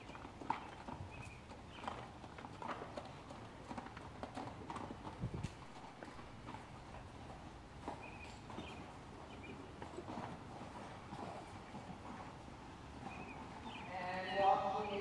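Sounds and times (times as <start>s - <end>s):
horse hoofbeats trotting on sand: 0.0s - 15.0s.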